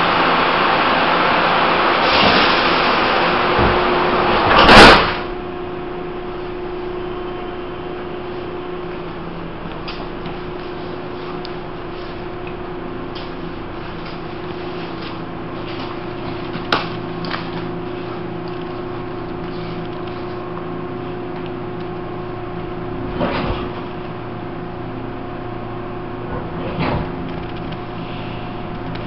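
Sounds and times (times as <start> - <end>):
train running hum and whine: 0.0 - 29.0.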